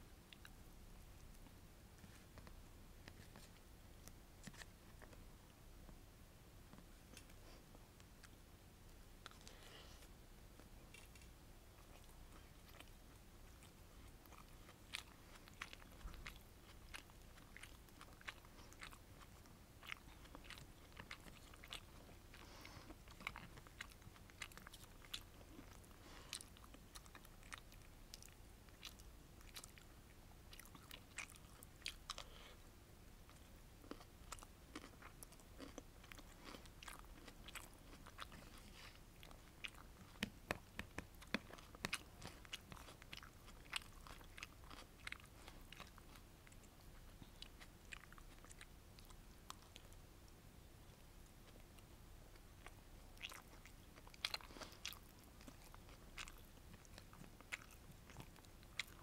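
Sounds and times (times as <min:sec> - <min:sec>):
person chewing food: 0:00.3 - 0:00.6, 0:01.2 - 0:05.3, 0:06.7 - 0:59.0.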